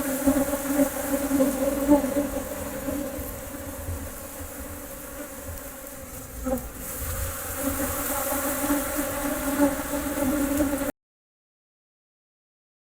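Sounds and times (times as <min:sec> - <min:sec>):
insect buzzing: 0:00.0 - 0:10.9.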